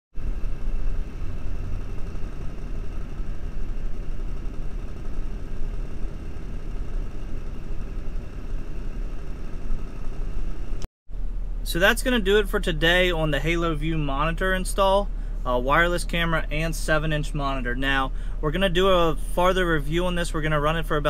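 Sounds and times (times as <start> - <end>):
truck engine idling: 0.2 - 21.0.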